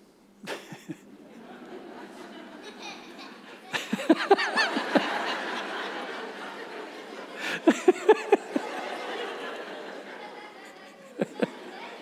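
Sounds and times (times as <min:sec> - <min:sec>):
audience laughing: 0:00.5 - 0:12.0.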